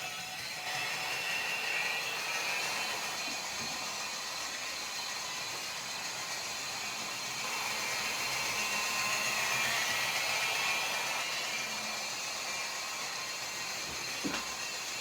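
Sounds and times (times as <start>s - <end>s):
model train motor whir: 0.0s - 15.0s.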